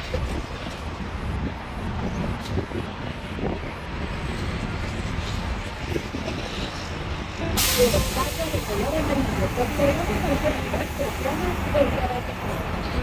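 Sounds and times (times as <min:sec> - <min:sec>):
bus engine: 0:00.0 - 0:13.0
steady traffic noise: 0:00.0 - 0:13.0.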